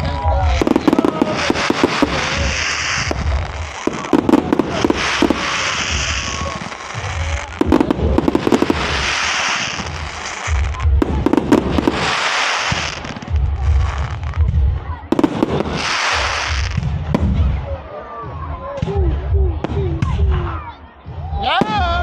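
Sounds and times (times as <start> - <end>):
fireworks bangs: 0.0 - 17.8
fizzing crackle of fireworks: 0.0 - 17.8.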